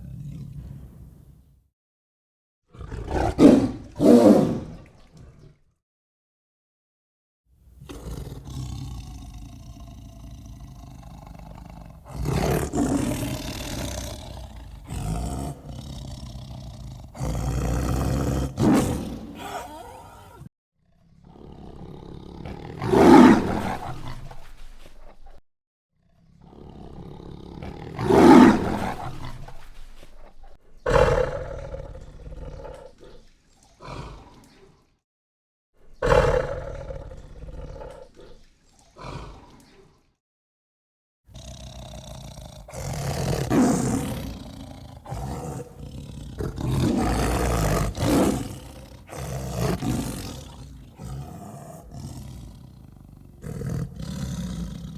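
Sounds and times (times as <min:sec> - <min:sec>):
tiger roaring and growling: 0:02.7 - 0:04.8, 0:07.8 - 0:24.4, 0:26.0 - 0:29.6, 0:30.2 - 0:34.6, 0:36.0 - 0:39.6, 0:41.3 - 0:54.9.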